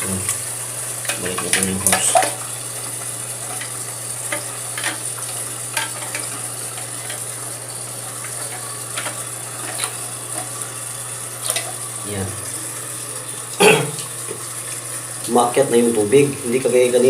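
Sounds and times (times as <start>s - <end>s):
water filling toilet tank: 0.0s - 17.0s.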